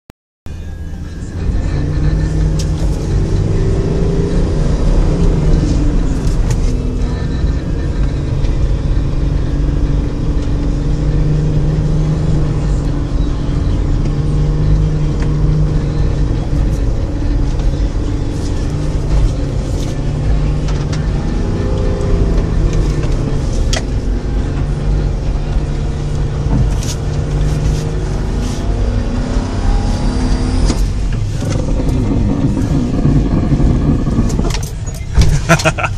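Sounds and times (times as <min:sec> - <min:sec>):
car engine revving: 0:00.6 - 0:35.9.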